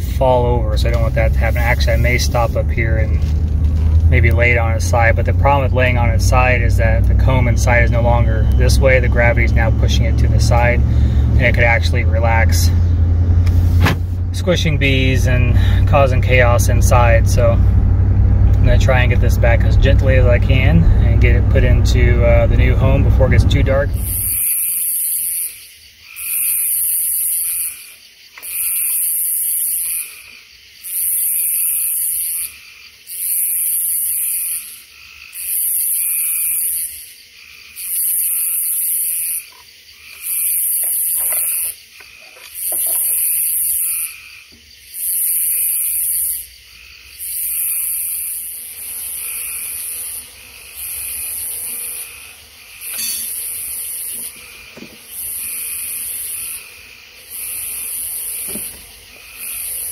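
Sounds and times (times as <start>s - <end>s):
night insects buzzing: 0.0s - 59.9s.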